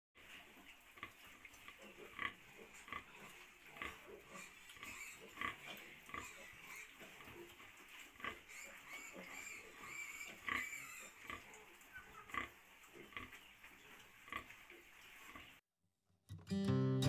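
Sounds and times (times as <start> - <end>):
sow nursing piglets: 0.2 - 15.6.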